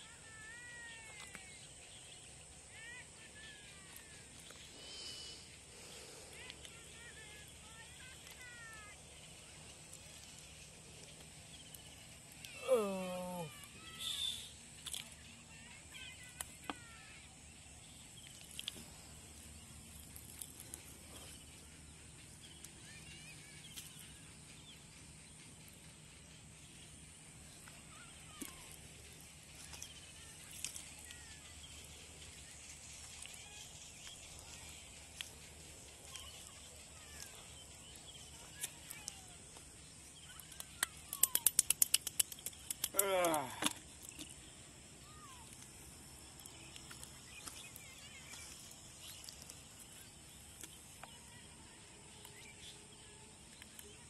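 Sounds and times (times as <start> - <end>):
faint bird chirps: 0.0 - 54.0.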